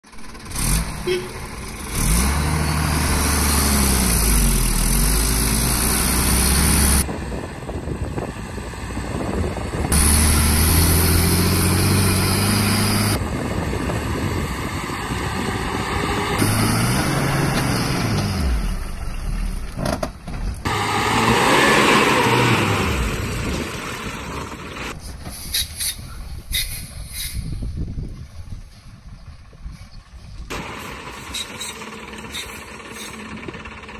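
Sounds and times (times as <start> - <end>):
truck diesel engine labouring: 0.0 - 33.9.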